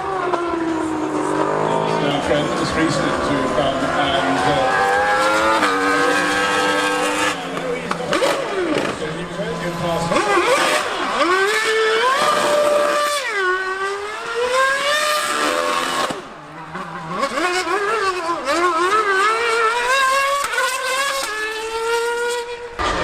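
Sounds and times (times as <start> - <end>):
race car engine at high revs: 0.0 - 23.0
superbike engine at high revs: 0.0 - 23.0.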